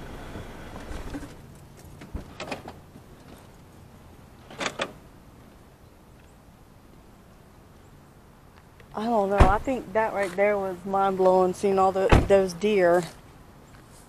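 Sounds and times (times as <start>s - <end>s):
car hum: 0.0s - 13.9s.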